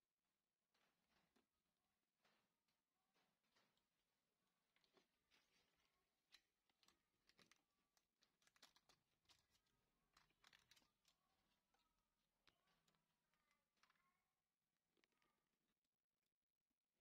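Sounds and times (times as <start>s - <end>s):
faint clicks and scratches: 0.7s - 16.0s.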